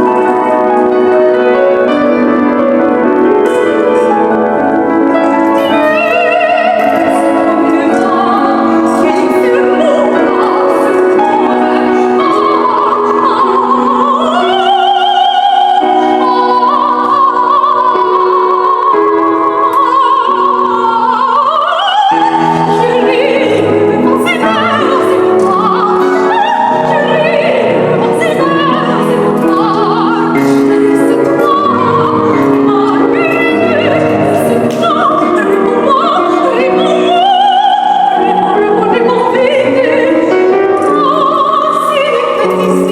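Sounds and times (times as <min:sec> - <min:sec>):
piano accompaniment: 0:00.0 - 0:42.9
soprano singing opera: 0:00.0 - 0:42.9.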